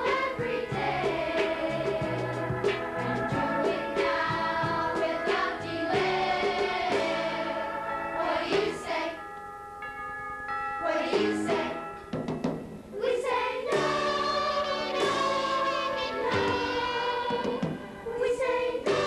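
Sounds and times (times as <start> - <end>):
youth choir singing: 0.0 - 9.2, 10.8 - 11.8, 12.9 - 19.0
instrumental accompaniment: 0.0 - 19.0.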